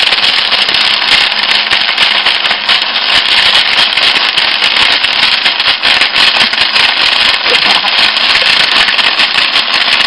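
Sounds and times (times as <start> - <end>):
firework crackling hiss: 0.0 - 10.0.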